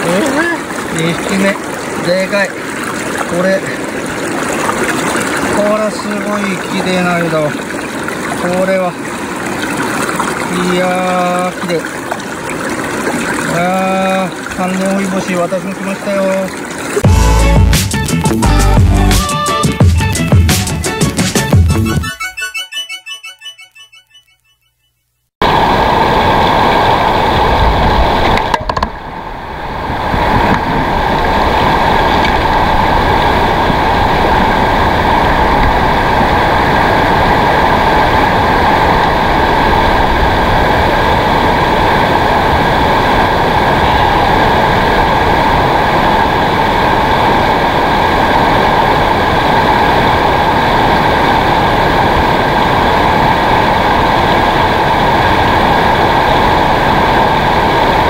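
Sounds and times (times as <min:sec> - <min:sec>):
river water rushing over rocks: 0:00.0 - 0:17.0, 0:25.4 - 0:58.0.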